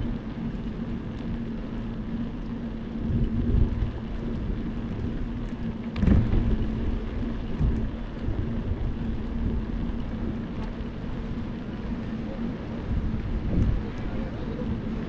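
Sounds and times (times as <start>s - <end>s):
low rumble: 0.0s - 15.0s
steady low hum: 0.0s - 15.0s
wind buffeting microphone: 0.0s - 15.0s.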